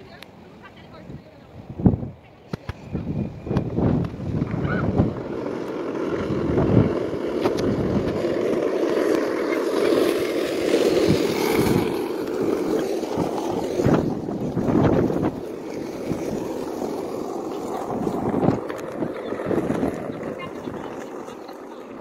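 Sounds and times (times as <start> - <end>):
skateboard wheels rolling on asphalt: 0.0 - 22.0.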